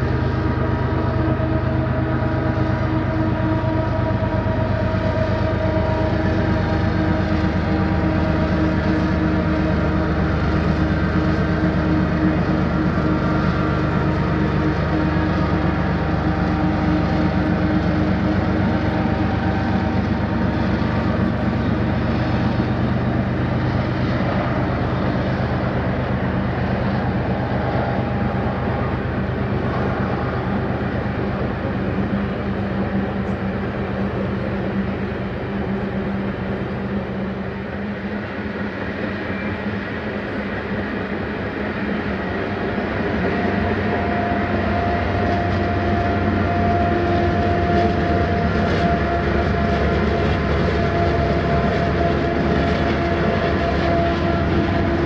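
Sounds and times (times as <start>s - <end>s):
diesel locomotive engines humming: 0.0s - 55.0s
wagons rumbling on rails: 0.0s - 55.0s.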